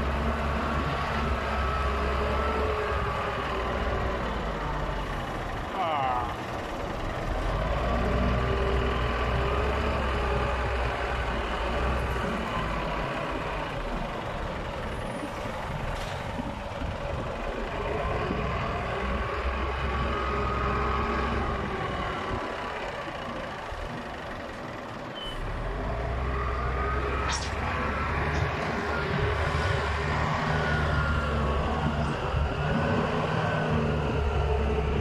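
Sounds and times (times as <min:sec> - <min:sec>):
wheel loader diesel engine: 0:00.0 - 0:35.0.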